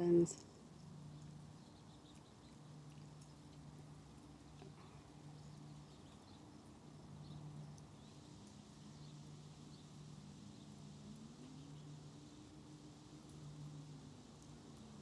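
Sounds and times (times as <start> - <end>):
low steady hum: 0.0 - 15.0
small birds peeping: 0.0 - 15.0.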